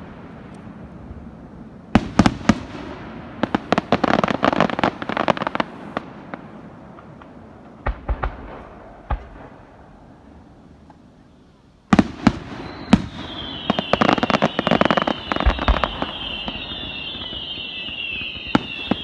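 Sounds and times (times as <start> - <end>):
fireworks bursting: 0.0 - 10.3, 11.1 - 19.0.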